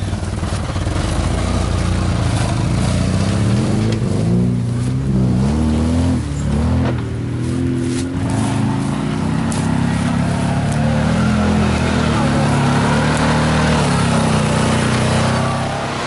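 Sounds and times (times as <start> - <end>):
engine working under load: 0.0 - 16.0.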